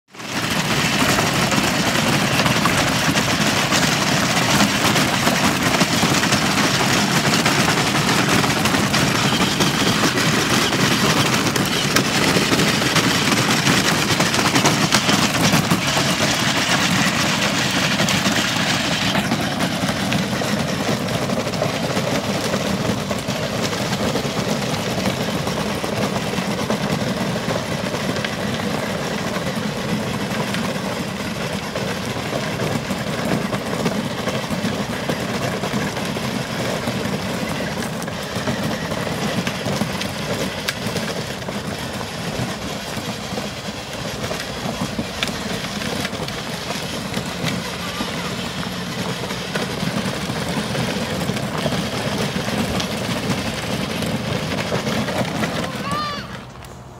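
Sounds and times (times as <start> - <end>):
plastic wheels grinding on gravel: 0.1 - 56.9.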